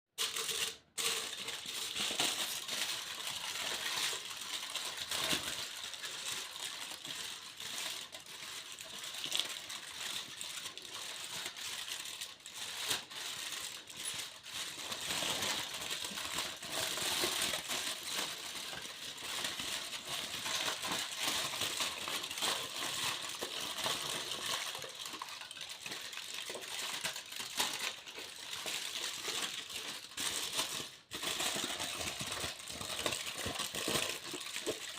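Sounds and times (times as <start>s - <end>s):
foil crinkling: 0.2s - 34.9s.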